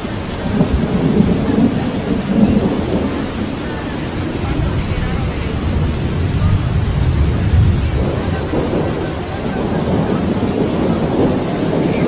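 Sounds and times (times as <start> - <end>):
rain hissing: 0.0 - 12.0
thunder rumbling: 0.0 - 12.0.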